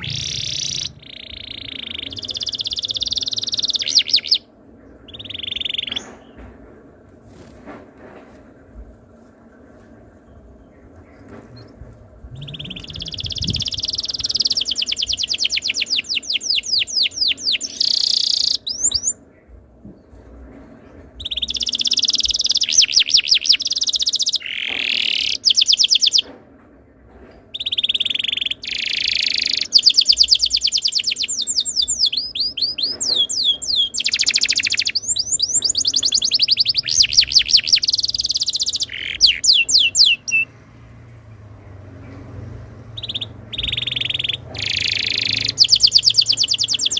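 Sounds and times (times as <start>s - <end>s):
canary singing trills: 0.0s - 6.4s, 10.3s - 19.2s, 21.2s - 26.3s, 27.5s - 40.6s, 42.8s - 46.9s.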